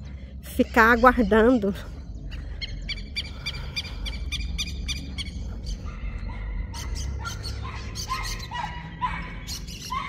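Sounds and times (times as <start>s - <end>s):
birds chirping: 0.0s - 10.0s
steady low rumble: 0.0s - 10.0s.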